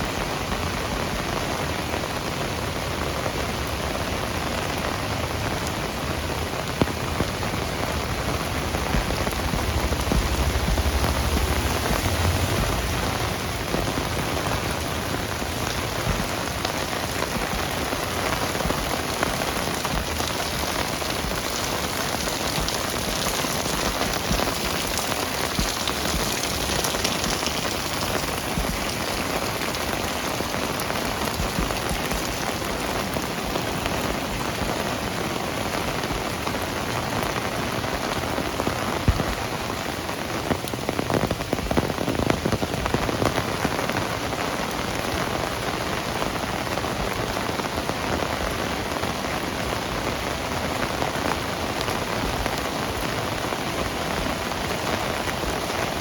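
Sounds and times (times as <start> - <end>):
heavy rain on hard surfaces: 0.0 - 56.0.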